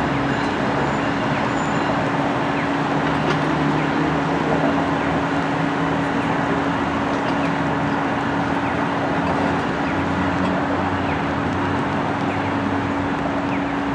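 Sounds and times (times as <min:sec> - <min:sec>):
train diesel engines droning: 0:00.0 - 0:13.9.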